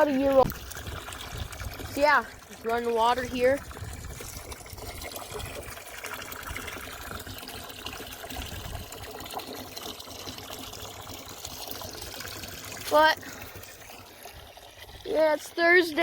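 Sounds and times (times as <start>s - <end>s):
water running into a tank: 0.0s - 16.0s.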